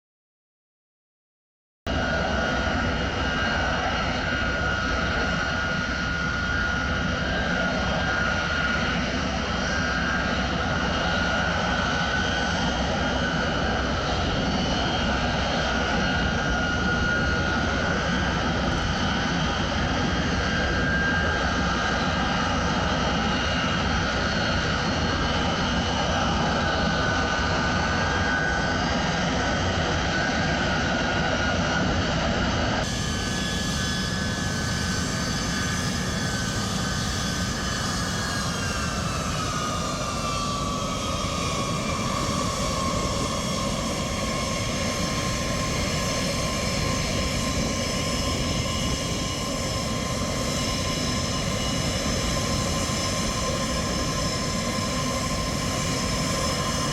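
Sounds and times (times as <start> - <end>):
jet engines roaring: 1.9 - 56.9.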